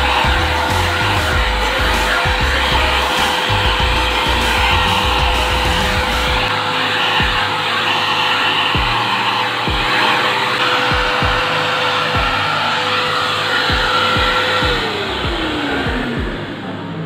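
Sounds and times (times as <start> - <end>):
background music with beat: 0.0 - 17.0
vacuum cleaner motor whine: 0.0 - 17.0.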